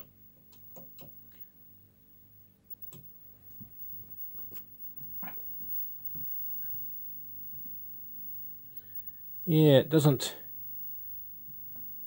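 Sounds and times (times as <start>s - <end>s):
television mains hum: 0.0s - 12.0s.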